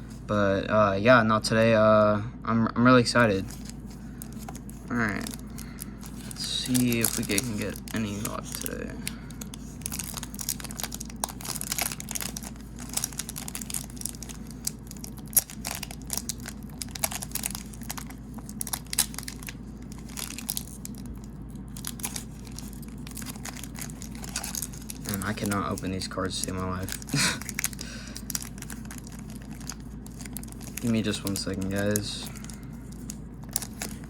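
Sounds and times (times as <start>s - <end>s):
plastic packaging crinkling: 3.2s - 34.0s.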